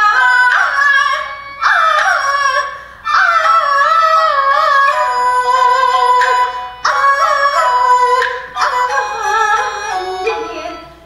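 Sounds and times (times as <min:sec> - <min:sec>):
instrumental accompaniment: 0:00.0 - 0:11.0
woman singing opera: 0:00.0 - 0:11.0.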